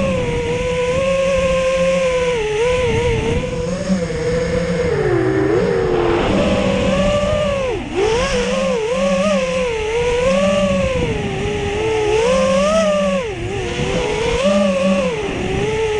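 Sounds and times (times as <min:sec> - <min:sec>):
low wind rumble on microphone: 0:00.0 - 0:15.9
quadcopter motors whining: 0:00.0 - 0:15.9.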